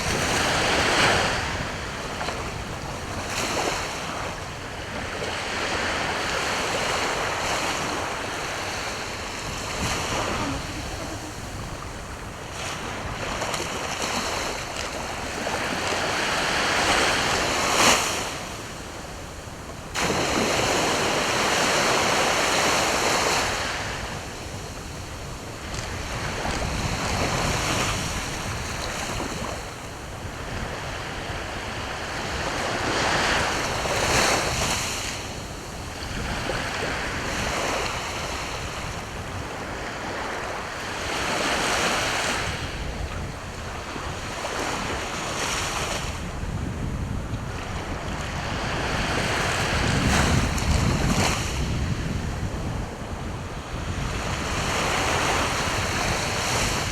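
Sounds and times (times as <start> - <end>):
sea waves breaking: 0.0 - 56.9
wind buffeting microphone: 0.0 - 56.9.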